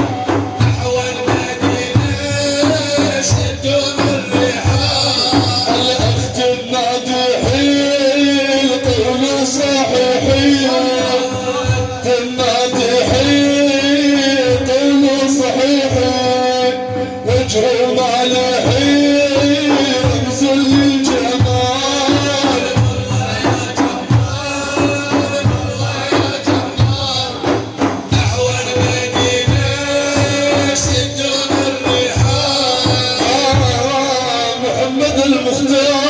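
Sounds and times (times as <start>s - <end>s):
hand percussion rhythm: 0.0s - 36.0s.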